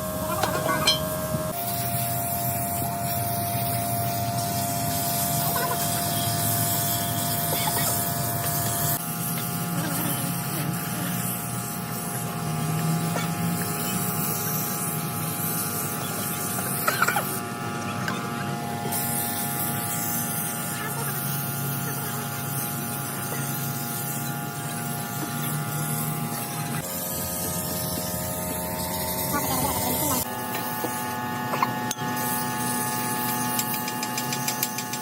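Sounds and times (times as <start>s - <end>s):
mechanical hum and whine: 0.0s - 35.0s.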